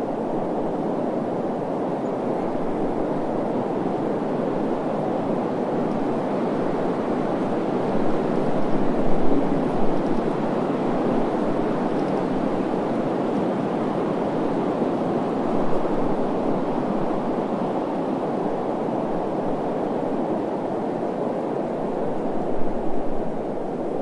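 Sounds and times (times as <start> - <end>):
steady wind blowing: 0.0 - 24.0.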